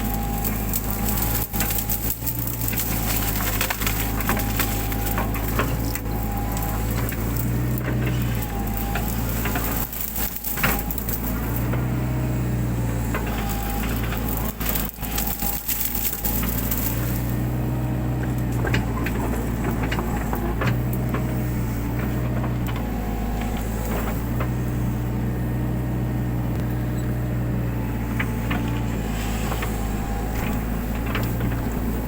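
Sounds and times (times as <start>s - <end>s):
brush crackling and snapping: 0.0s - 25.7s, 27.4s - 32.0s
excavator diesel engine running: 0.0s - 32.0s.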